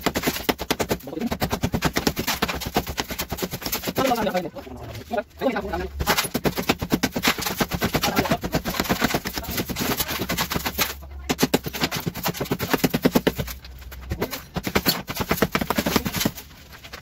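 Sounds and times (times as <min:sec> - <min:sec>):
rapid hammering impacts: 0:00.0 - 0:04.5, 0:05.9 - 0:17.0.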